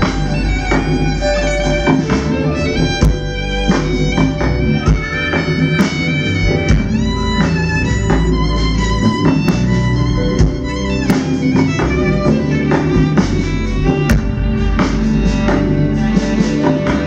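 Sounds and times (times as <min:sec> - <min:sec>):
bass line: 0:00.0 - 0:17.0
drum hits: 0:00.0 - 0:17.0
live band: 0:00.0 - 0:17.0
violin melody: 0:00.0 - 0:17.0.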